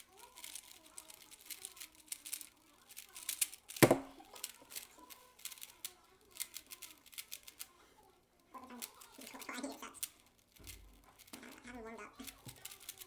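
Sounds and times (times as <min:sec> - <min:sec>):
puzzle cube clicking: 0:00.3 - 0:07.7, 0:08.7 - 0:13.0.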